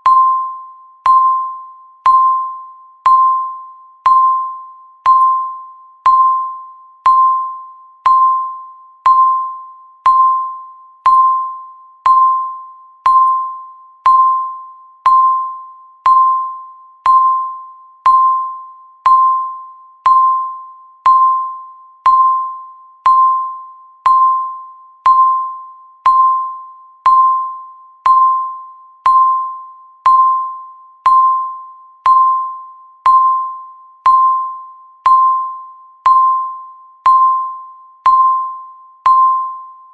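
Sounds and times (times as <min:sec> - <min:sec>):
bell-like timer dings: 0:00.0 - 0:39.9.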